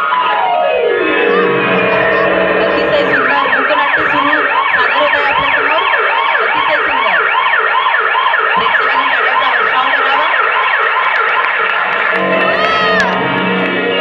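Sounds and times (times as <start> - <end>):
siren in fast yelp: 0.0 - 13.4.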